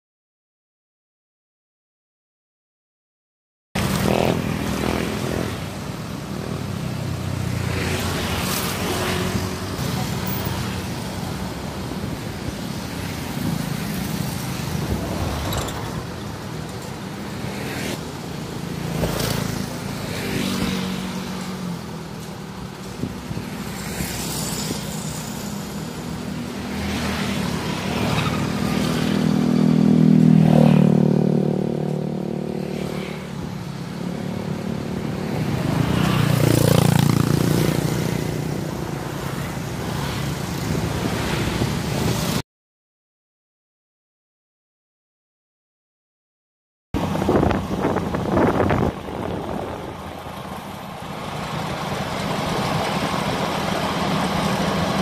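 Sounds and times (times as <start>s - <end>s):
motorcycles passing: 3.8s - 42.4s, 47.0s - 55.0s.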